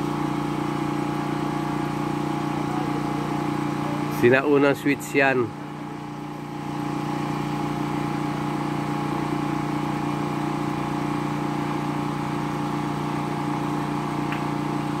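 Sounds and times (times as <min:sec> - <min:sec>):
water pump motor humming: 0:00.0 - 0:15.0.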